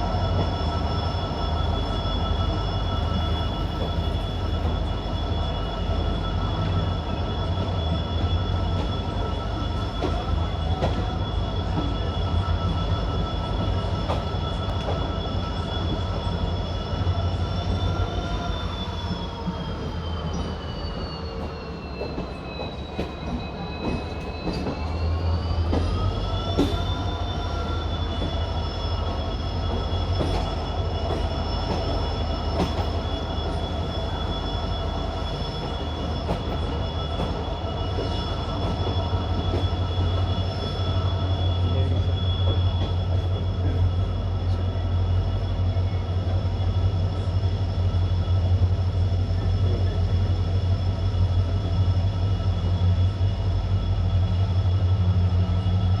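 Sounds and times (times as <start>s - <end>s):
locomotive engine rumbling: 0.0s - 56.0s.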